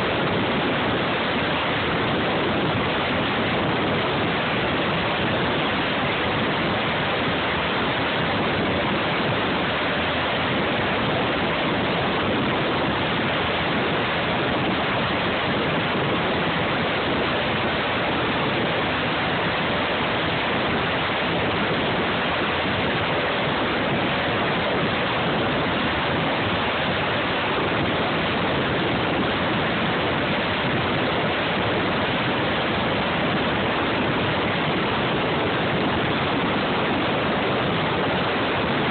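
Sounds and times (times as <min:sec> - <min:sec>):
helicopter engines and rotors running: 0:00.0 - 0:38.9.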